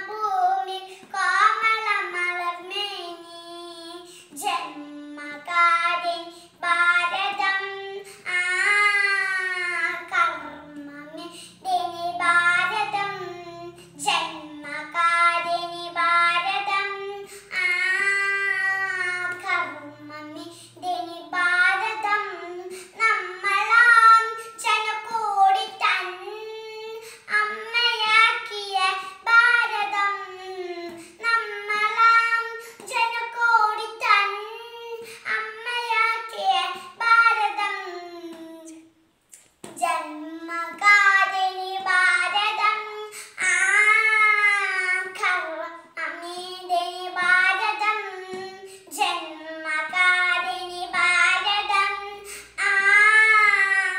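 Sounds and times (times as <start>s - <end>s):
girl singing unaccompanied: 0.0s - 53.9s.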